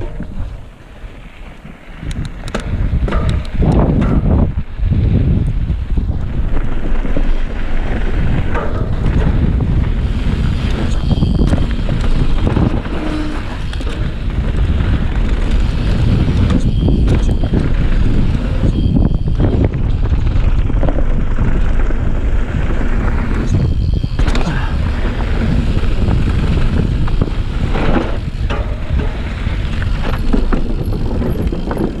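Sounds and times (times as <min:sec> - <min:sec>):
bike tyres rolling over dirt: 0:00.0 - 0:32.0
wind buffeting microphone: 0:00.0 - 0:32.0.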